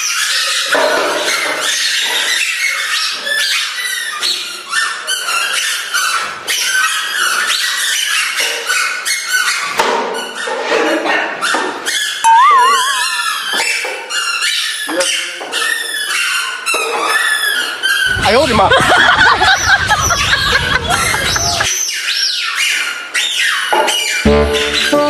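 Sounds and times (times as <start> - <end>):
squeaky toys squeaking: 0.0 - 25.0.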